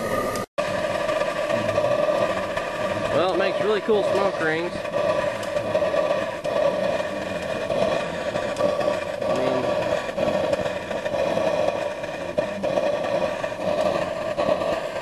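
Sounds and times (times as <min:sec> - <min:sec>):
burner flame rushing: 0:00.0 - 0:15.0.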